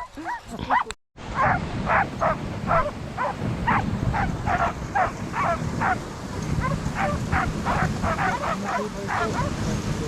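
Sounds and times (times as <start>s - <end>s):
dogs barking and yipping: 0.0s - 9.6s.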